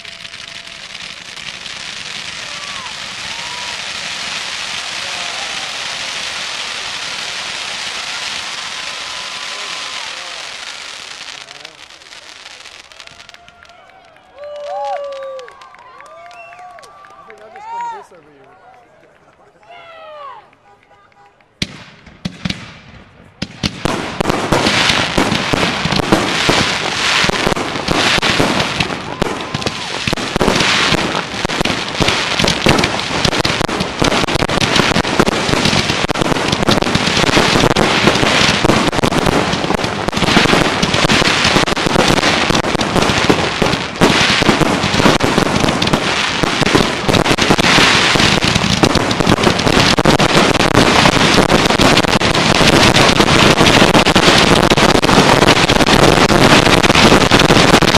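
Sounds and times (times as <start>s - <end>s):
fireworks launching and bursting: 0.0s - 15.9s, 21.6s - 57.9s.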